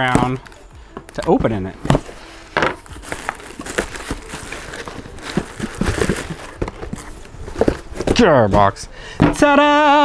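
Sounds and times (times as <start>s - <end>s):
cardboard box rustling and scraping: 0.0s - 9.7s.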